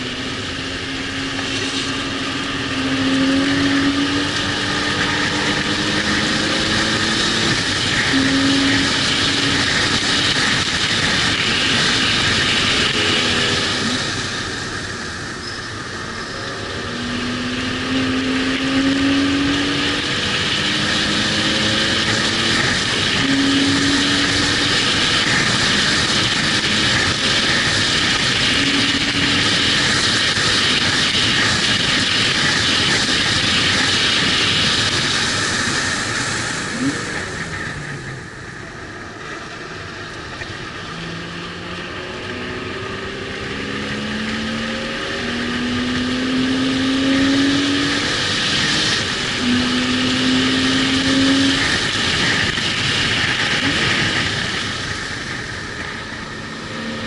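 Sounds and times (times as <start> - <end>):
car engine accelerating: 0.0 - 57.0
wind and road noise: 0.0 - 57.0.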